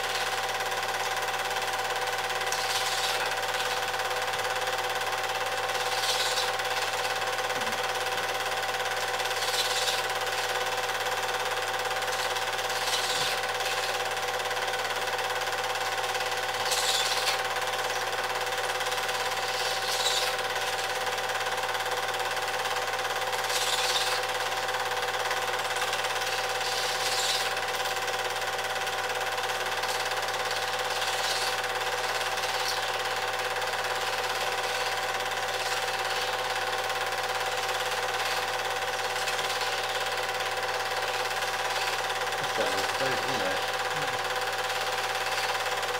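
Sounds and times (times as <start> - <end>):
film projector motor humming: 0.0 - 45.9.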